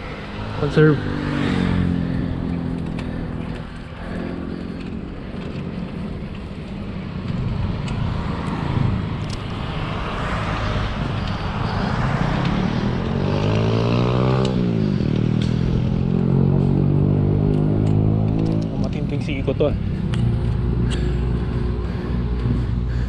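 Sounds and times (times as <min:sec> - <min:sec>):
road and wind noise: 0:00.0 - 0:23.0
vehicle passing by: 0:00.0 - 0:23.0.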